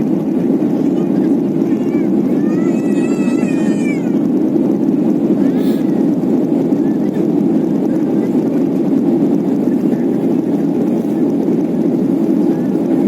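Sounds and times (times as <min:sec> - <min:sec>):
jet engines and airflow rushing: 0:00.0 - 0:13.0.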